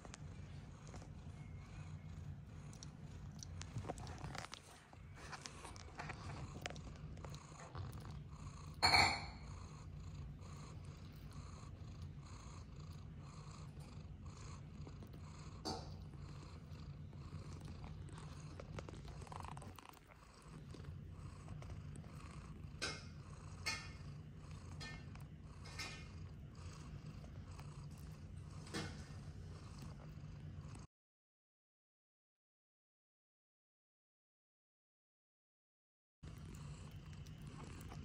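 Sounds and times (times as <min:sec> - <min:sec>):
cat purring: 0:00.0 - 0:30.9, 0:36.2 - 0:38.0.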